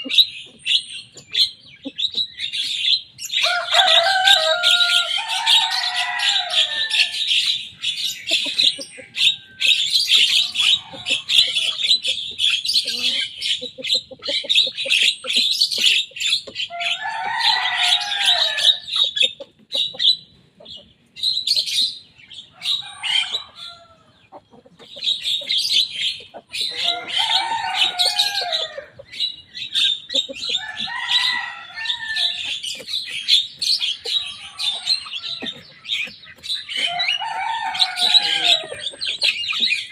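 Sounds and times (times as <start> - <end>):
myna bird chattering and whistling: 0.0 - 39.9.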